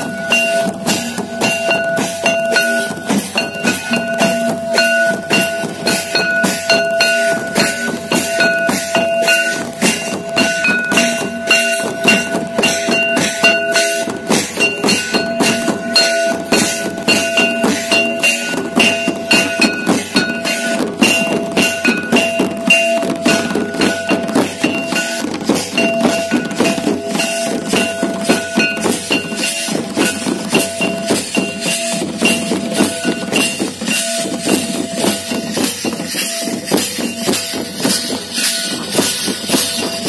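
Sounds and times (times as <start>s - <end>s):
barrel drum: 0.0s - 40.0s
kettle drums struck with sticks: 0.0s - 40.0s
metallic clinks: 0.0s - 40.0s.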